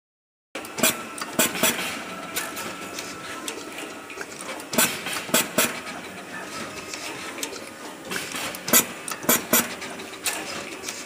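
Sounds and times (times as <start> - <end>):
machine humming: 0.6 - 11.0.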